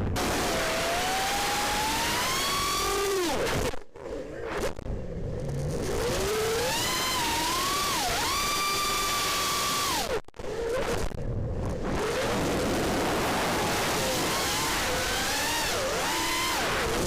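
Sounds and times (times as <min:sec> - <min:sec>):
drone motors whining: 0:00.2 - 0:17.0.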